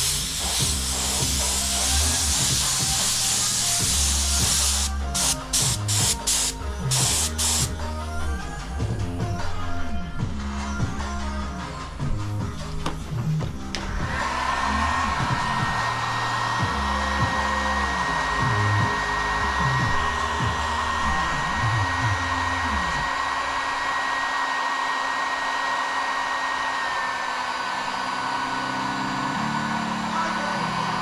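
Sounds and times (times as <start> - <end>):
electric blower running: 0.0 - 31.0.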